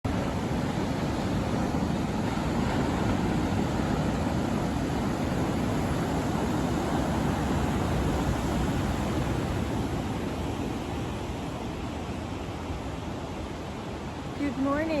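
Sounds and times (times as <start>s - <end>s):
wind: 0.0s - 15.0s
ocean surf: 0.1s - 15.0s.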